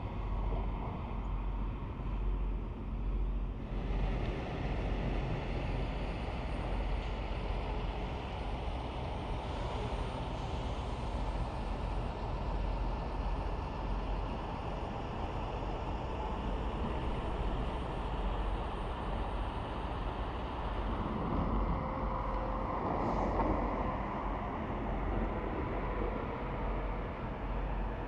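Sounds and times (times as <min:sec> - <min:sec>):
highway traffic rumble: 0:00.0 - 0:28.0.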